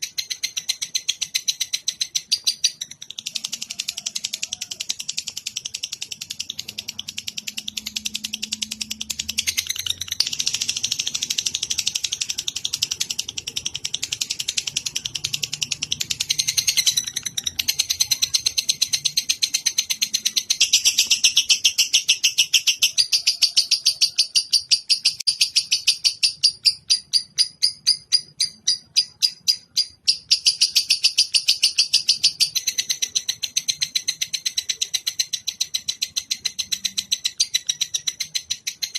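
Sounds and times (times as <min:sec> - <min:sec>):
songbird chattering: 0:00.0 - 0:38.9.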